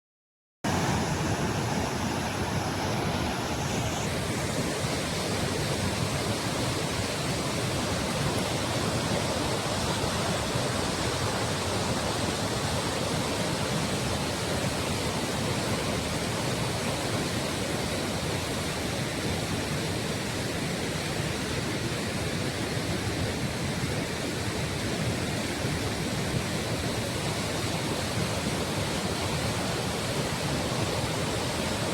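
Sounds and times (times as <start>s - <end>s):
water rushing: 0.7s - 31.9s.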